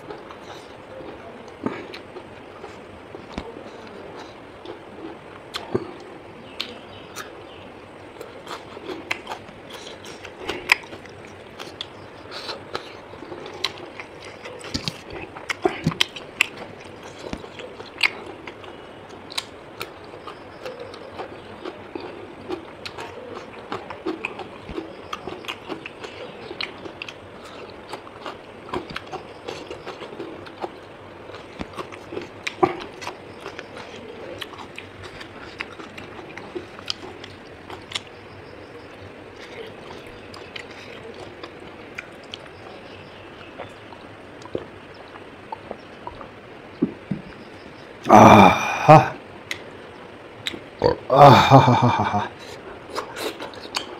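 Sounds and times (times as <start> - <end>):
person chewing food: 0.0 - 53.9.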